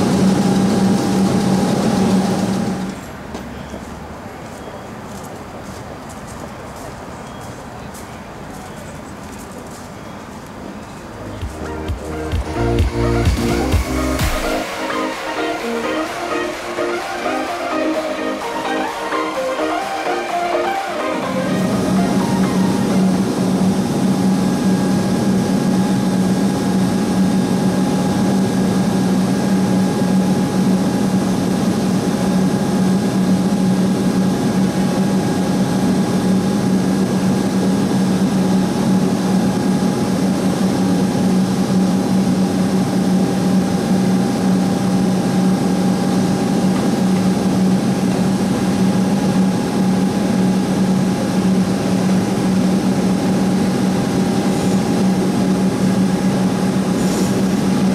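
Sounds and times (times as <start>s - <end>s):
low mechanical hum: 0.0s - 57.9s.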